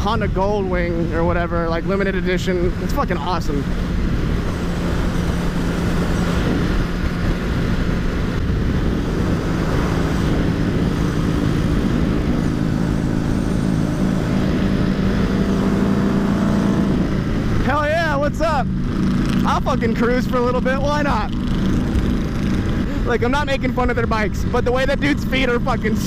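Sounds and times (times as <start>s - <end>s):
motorcycle engine cruising: 0.0s - 26.0s
steady engine tones: 0.0s - 26.0s
wind and road rush: 0.0s - 26.0s.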